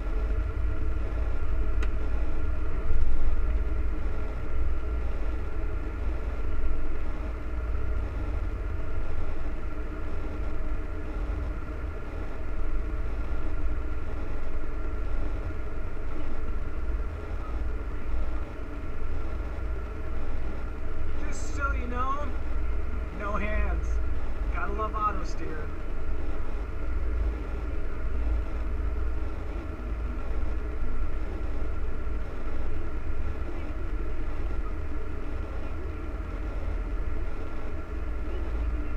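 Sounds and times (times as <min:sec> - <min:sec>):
steady whine: 0:00.0 - 0:38.9
tractor low rumble: 0:00.0 - 0:38.9.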